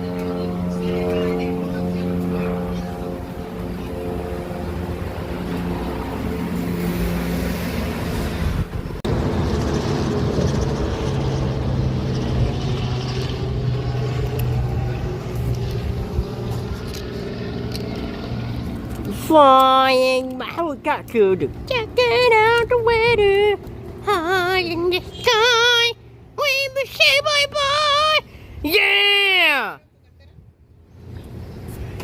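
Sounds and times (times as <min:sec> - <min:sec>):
propeller plane engine droning: 0:00.0 - 0:32.0.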